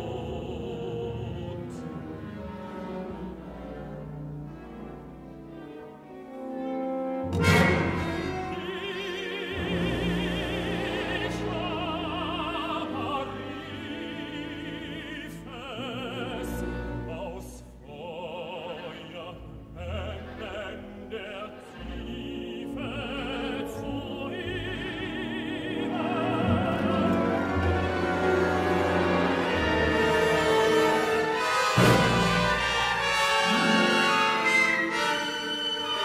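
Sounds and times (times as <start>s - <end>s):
orchestra playing: 0.0s - 36.0s.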